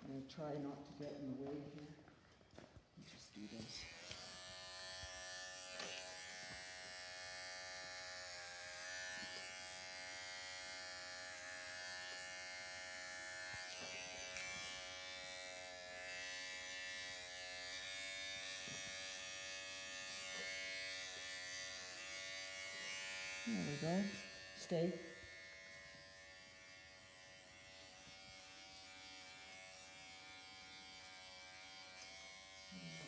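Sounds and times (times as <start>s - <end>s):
pet hair clipper buzzing: 3.0s - 33.0s.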